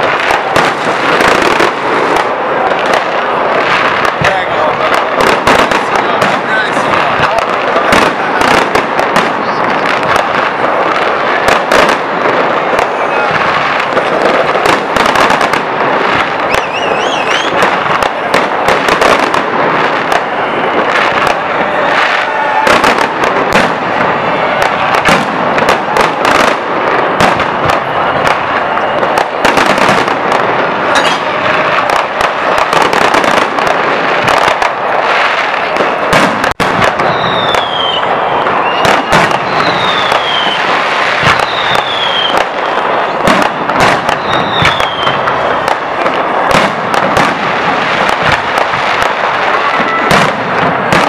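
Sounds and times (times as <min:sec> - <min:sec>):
fireworks bangs and crackling: 0:00.0 - 0:51.0
fireworks falling whistles: 0:00.0 - 0:51.0.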